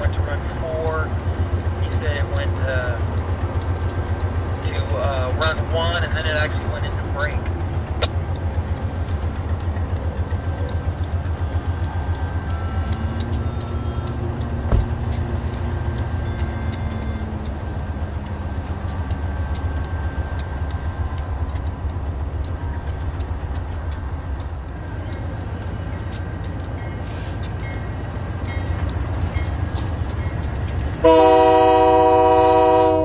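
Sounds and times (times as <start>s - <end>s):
locomotive engine rumble: 0.0s - 33.0s.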